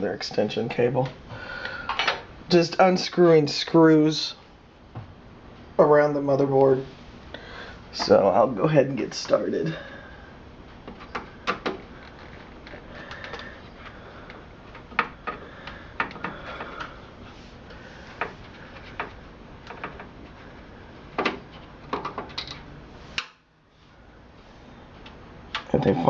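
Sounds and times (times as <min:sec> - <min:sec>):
low steady hiss: 0:00.0 - 0:26.0.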